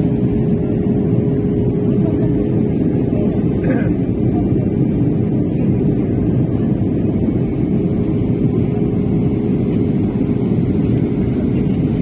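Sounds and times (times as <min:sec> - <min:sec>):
airliner cabin engine roar: 0:00.0 - 0:12.0.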